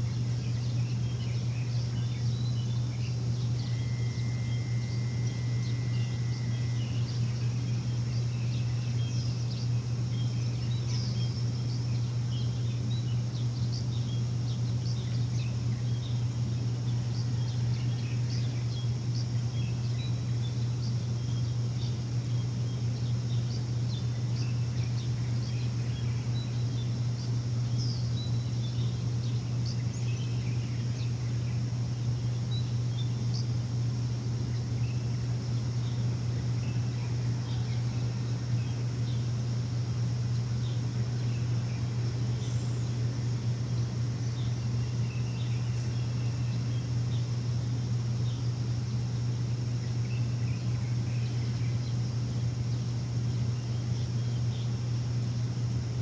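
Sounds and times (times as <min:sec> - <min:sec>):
machine humming: 0:00.0 - 0:56.0
small birds chirping: 0:00.0 - 0:56.0.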